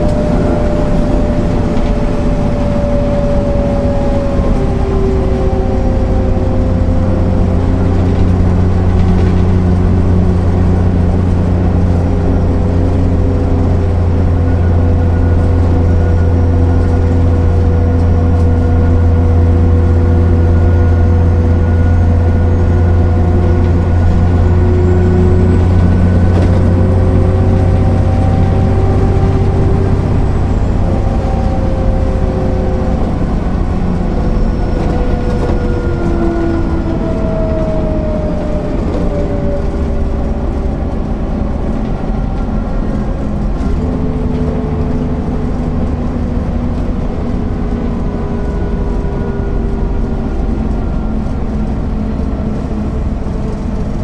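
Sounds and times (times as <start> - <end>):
city bus engine drone: 0.0 - 54.0
whining tones drifting in pitch: 0.0 - 54.0.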